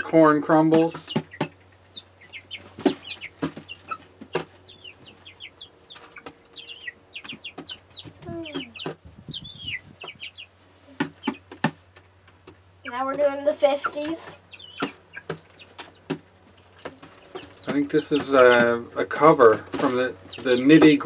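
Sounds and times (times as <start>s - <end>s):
chicks peeping and chirping: 0.0s - 21.0s
chickens pecking on plastic: 0.5s - 21.0s.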